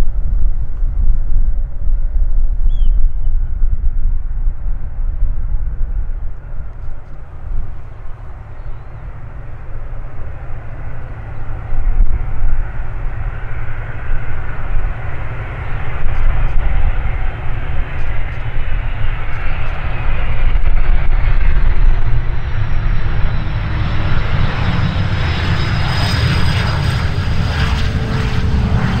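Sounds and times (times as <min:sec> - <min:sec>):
high turbine whine: 0:00.0 - 0:29.0
jet engines running: 0:00.0 - 0:29.0.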